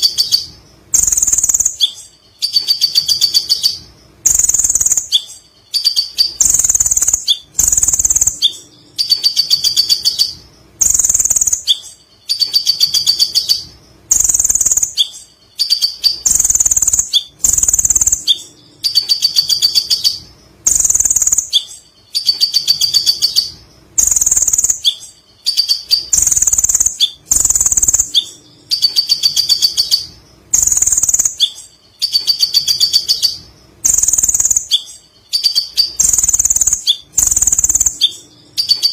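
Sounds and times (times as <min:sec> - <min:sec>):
bird trilled chattering song: 0:00.0 - 0:38.9.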